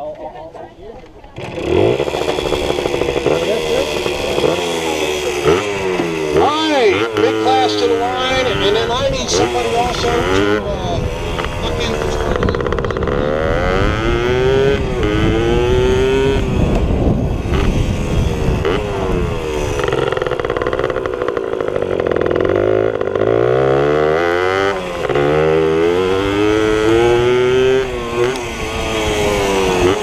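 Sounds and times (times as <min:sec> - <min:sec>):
deeper bike engine climbing: 0:00.0 - 0:30.0
pit bike engines revving: 0:00.0 - 0:30.0.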